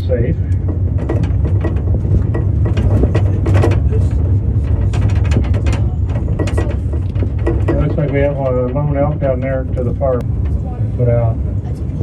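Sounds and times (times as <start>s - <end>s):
tram low rumble: 0.0s - 12.0s
clicking and rattling: 0.5s - 10.8s.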